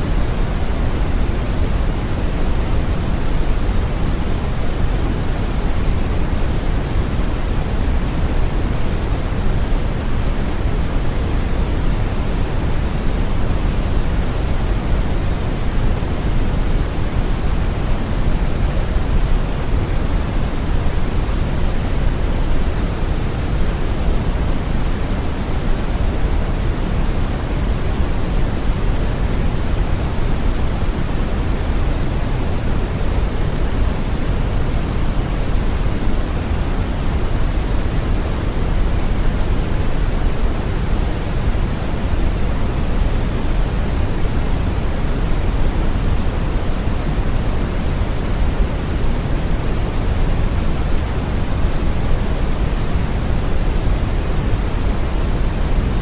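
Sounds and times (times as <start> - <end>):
brown noise hiss: 0.0 - 56.0.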